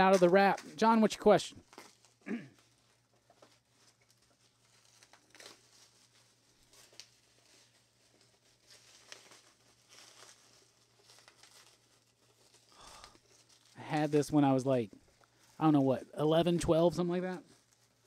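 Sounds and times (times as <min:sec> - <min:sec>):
plastic wrap crinkling: 0:00.0 - 0:18.0.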